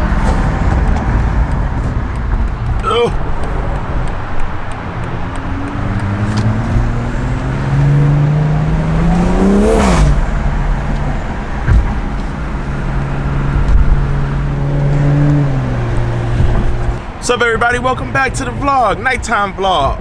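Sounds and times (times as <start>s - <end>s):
car driving past: 0.0s - 17.2s
engine humming: 0.0s - 20.0s
road traffic noise: 0.0s - 20.0s.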